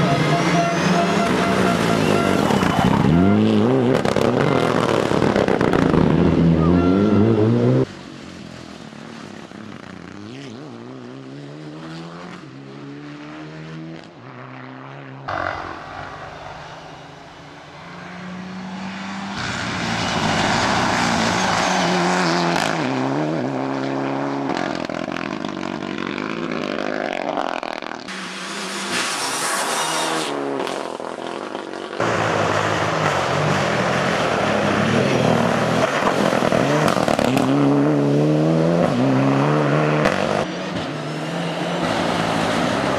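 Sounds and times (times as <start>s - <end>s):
rally car engines revving: 0.0s - 42.9s.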